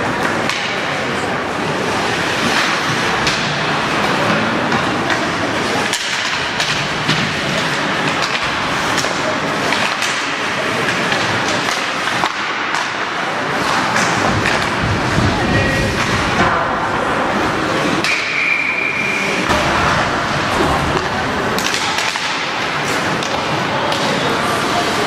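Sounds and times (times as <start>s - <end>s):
crowd chatter: 0.0s - 25.0s
hockey sticks and puck clacking: 0.0s - 25.0s.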